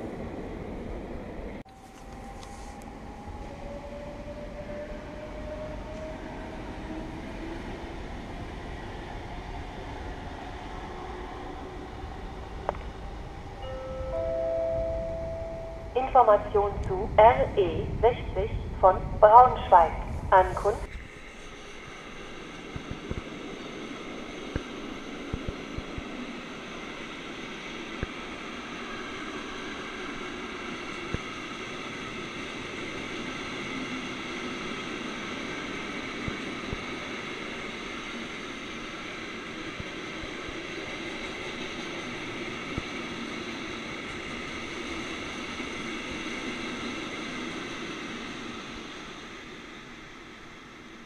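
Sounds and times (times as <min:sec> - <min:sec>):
electric train rumbling: 0:00.0 - 0:51.0.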